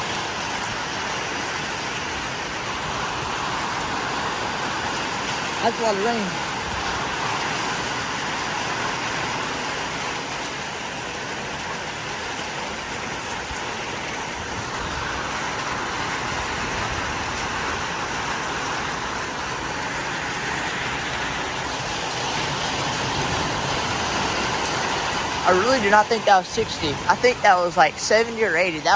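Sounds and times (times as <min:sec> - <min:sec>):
heavy rain pouring in wind: 0:00.0 - 0:28.9.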